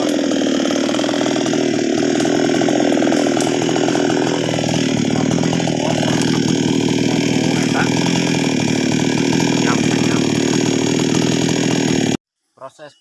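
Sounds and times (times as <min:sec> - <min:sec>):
chainsaw running: 0:00.0 - 0:12.2.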